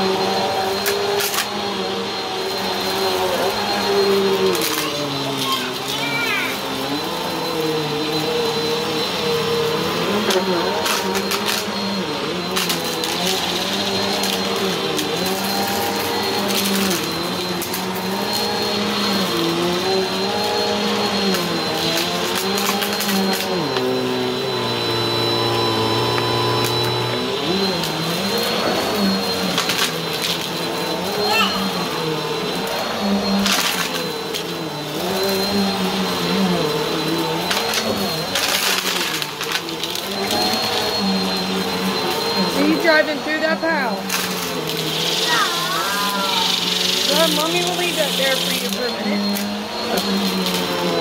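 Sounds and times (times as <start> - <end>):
upright vacuum running on carpet: 0.0 - 51.0.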